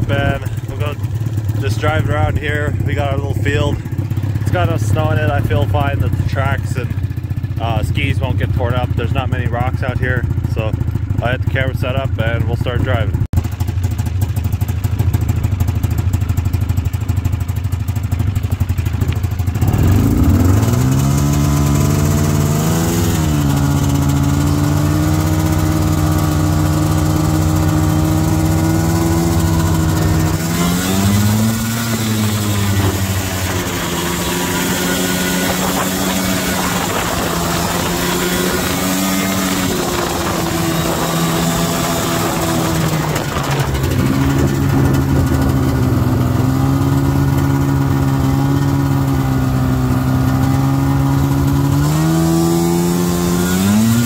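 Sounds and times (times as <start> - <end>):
snowmobile engine revving: 0.0 - 13.2, 18.0 - 54.0.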